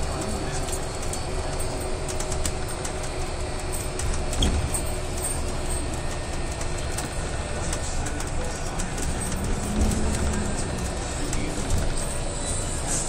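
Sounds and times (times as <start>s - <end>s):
bus cabin rumble: 0.0s - 13.0s.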